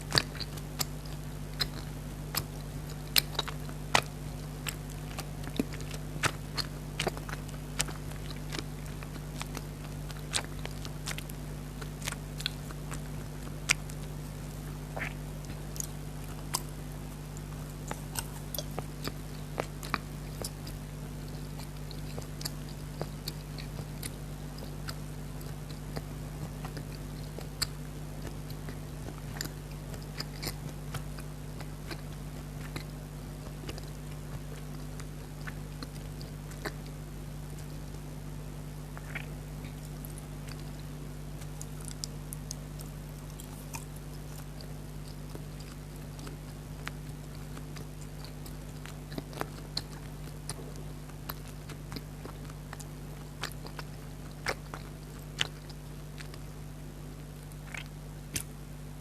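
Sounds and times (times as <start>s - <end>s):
chewing jelly candies: 0.0s - 59.0s.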